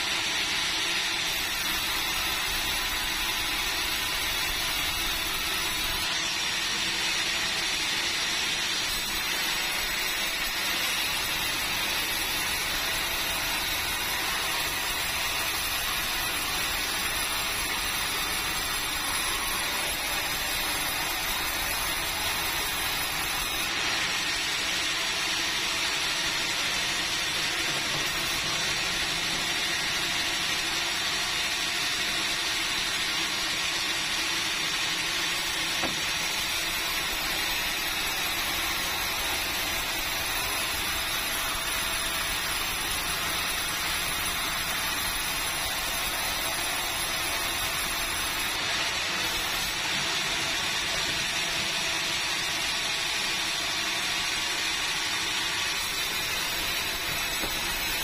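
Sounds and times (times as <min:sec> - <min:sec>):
band saw cutting timber: 0:01.2 - 0:31.4, 0:35.2 - 0:53.8, 0:55.6 - 0:58.0.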